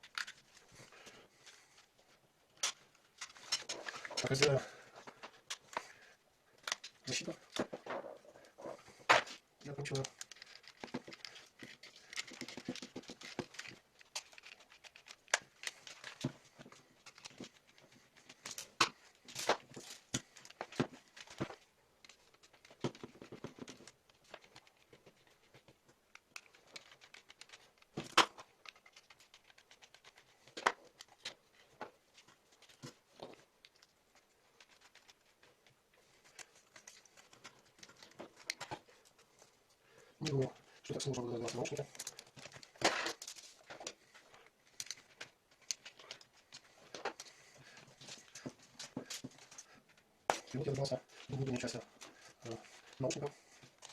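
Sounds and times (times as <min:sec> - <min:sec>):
plastic parts clicking: 0:00.0 - 0:00.6, 0:06.6 - 0:08.0, 0:09.1 - 0:33.9, 0:36.2 - 0:39.3, 0:40.2 - 0:53.9.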